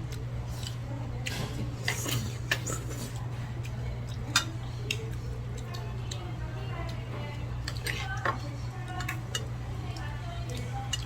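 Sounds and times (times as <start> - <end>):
steady low hum: 0.0 - 11.0
utensils clinking against dishes: 0.5 - 11.0.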